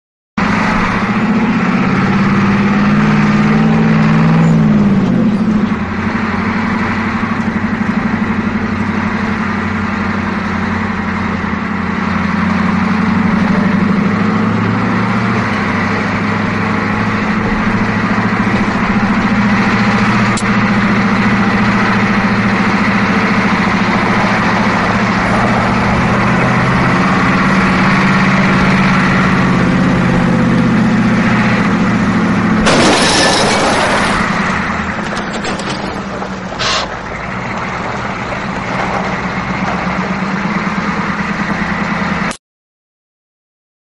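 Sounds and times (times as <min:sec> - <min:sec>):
bus engine droning: 0:00.4 - 0:42.4.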